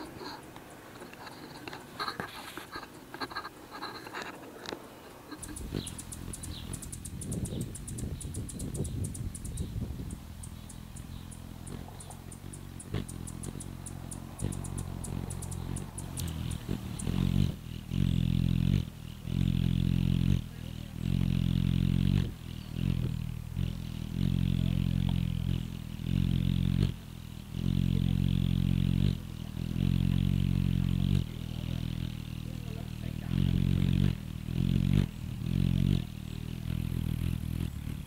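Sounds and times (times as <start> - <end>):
hummingbird wings humming: 0.0 - 38.0.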